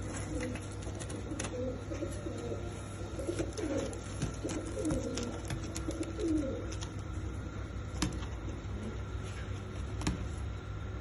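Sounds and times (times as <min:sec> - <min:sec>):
pigeons cooing: 0:00.0 - 0:09.2.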